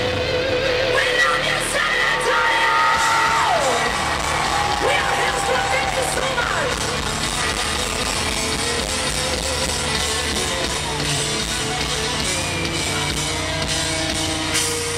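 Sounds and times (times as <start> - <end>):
distorted electric guitar: 0.0 - 14.9
drum kit: 2.8 - 14.9.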